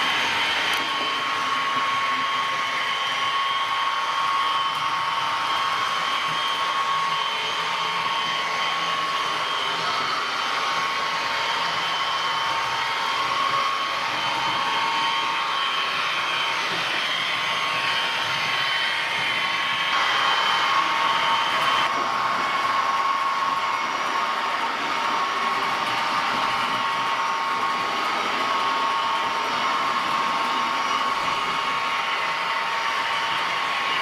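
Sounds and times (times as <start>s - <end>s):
model train diesel engine sound: 0.0s - 34.0s
model train drive whirring: 0.0s - 34.0s.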